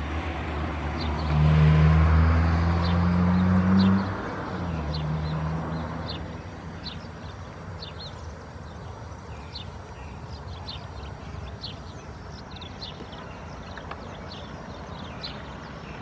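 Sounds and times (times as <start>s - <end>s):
bird chirping: 2.7s - 16.0s.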